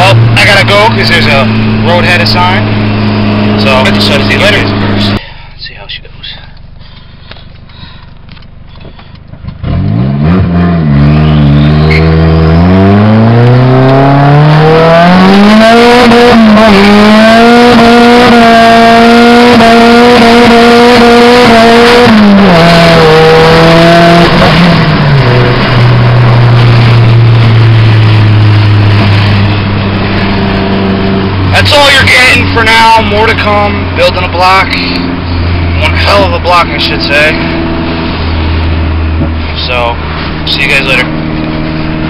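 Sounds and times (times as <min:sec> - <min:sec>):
car engine revving hard: 0:00.0 - 0:05.2, 0:09.6 - 0:42.0.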